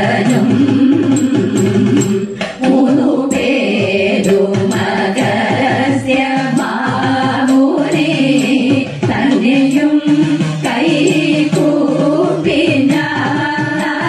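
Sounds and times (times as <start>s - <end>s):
women singing in chorus: 0.0s - 14.0s.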